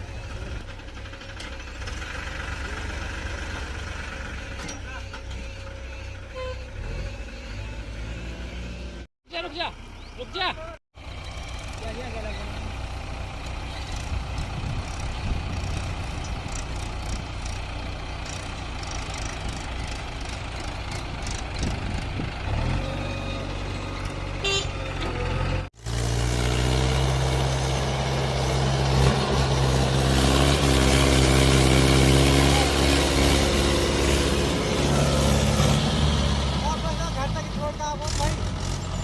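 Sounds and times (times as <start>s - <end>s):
heavy diesel engine running: 0.0s - 7.9s, 9.7s - 39.0s.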